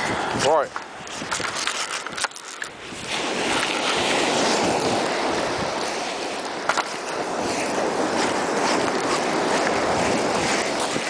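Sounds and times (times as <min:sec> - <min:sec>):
waves on shingle beach: 0:00.0 - 0:11.0.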